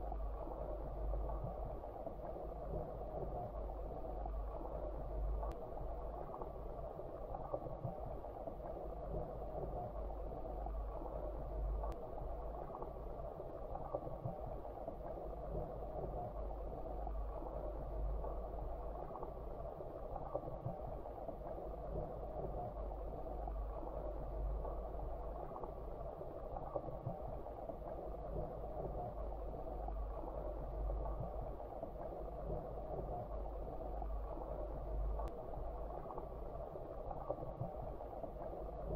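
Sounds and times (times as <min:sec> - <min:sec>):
faint ticks: 0:00.0 - 0:38.9
underwater stream rumble and hiss: 0:00.0 - 0:38.9.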